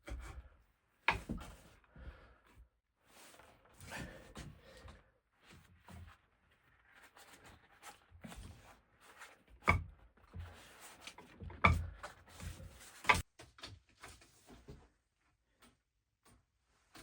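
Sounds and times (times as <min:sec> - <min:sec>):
rustling and handling noises: 0:03.1 - 0:17.0.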